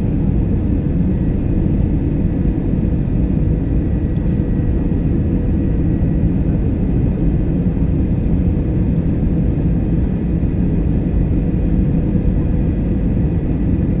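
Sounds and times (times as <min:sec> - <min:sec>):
low rumble of engines and airflow: 0:00.0 - 0:14.0.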